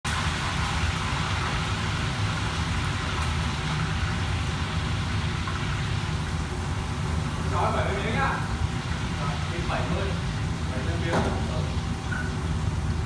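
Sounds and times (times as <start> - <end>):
extraction hood fan: 0.1 - 13.0
gas wok burners hissing: 0.1 - 13.0.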